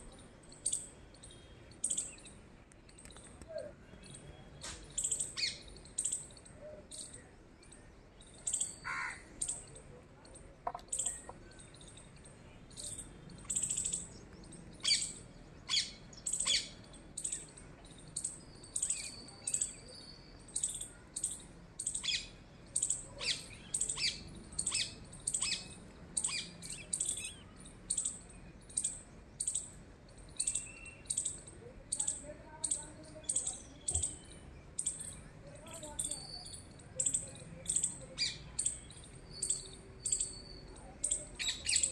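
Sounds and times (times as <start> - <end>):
small bird chirping: 0.1 - 8.8, 9.4 - 41.9.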